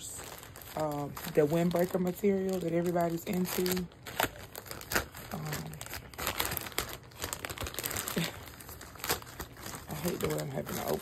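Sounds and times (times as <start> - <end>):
bag crinkling and rustling: 0.0 - 11.0.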